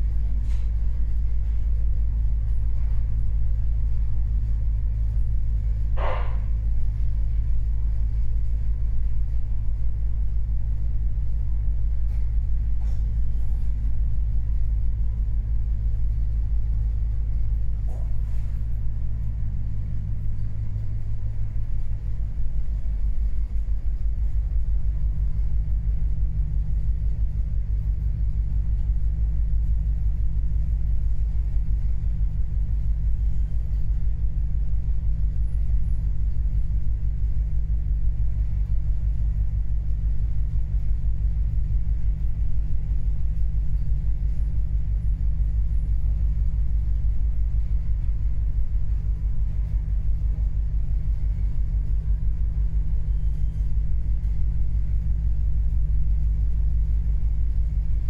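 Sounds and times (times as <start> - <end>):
ship engine rumble: 0.0 - 58.0.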